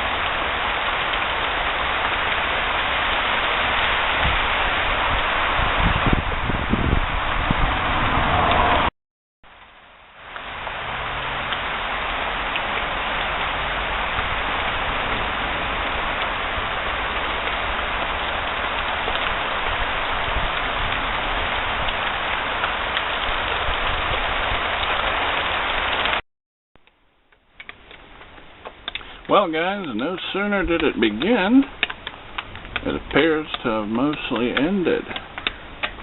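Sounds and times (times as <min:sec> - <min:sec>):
heavy rain pouring: 0:00.0 - 0:08.9, 0:09.5 - 0:26.2, 0:27.4 - 0:36.0.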